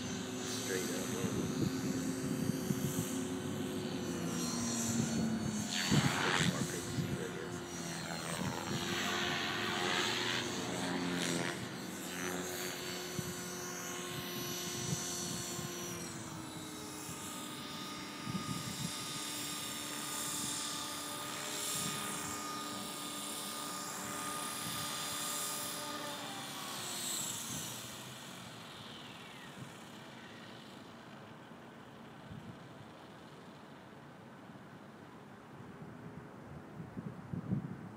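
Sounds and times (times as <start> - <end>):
rc helicopter motor and rotor whine: 0.0 - 37.8.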